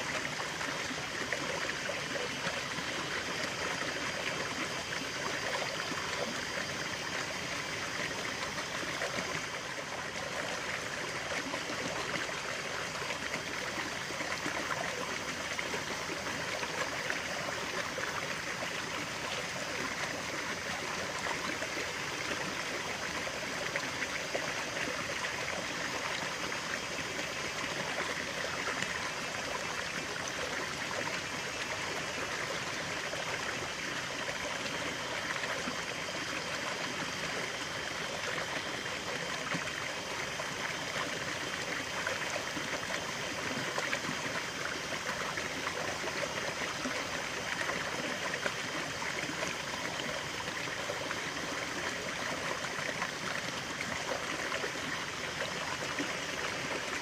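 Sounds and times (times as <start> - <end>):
water flowing over stones: 0.0 - 57.0.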